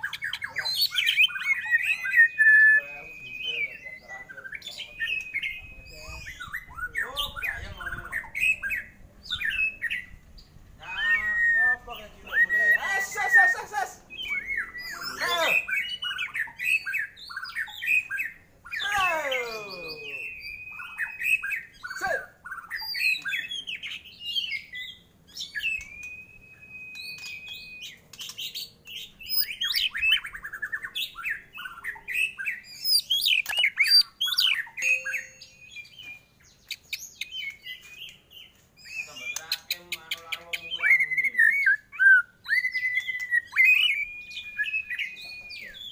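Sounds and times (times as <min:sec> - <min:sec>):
songbird whistling and chattering: 0:00.0 - 0:45.9.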